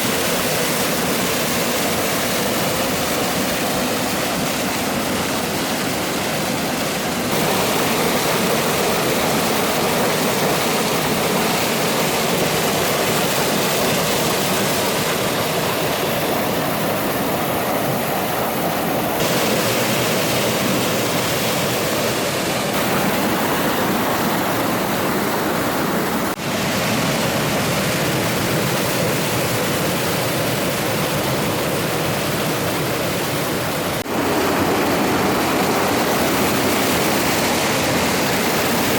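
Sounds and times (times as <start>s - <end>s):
stream and waterfall rushing: 0.0s - 38.9s.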